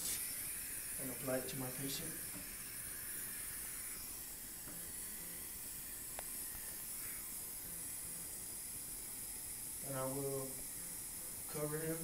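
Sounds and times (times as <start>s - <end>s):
oxygen hissing from regulator: 0.0s - 12.0s.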